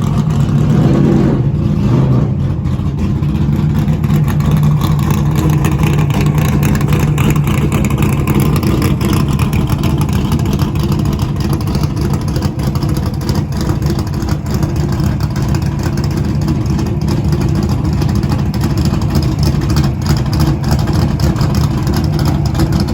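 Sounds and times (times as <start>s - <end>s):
race car engine running: 0.0s - 22.9s.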